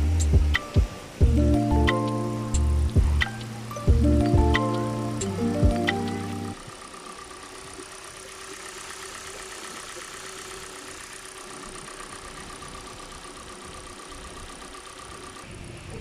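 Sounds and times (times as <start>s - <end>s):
petrol engine idling: 0.9s - 16.0s.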